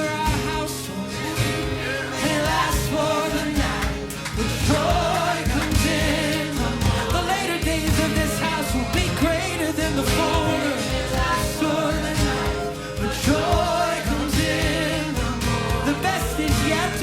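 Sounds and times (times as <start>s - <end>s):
live worship band music: 0.0s - 17.0s
person singing: 0.0s - 17.0s.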